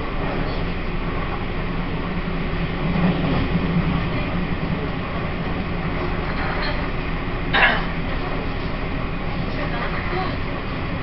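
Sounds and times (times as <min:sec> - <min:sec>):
train rumble and low hum: 0:00.0 - 0:11.0.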